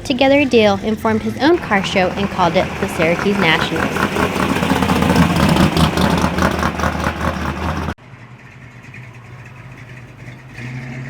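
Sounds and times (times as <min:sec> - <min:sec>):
car engine running loudly: 0:00.0 - 0:11.0.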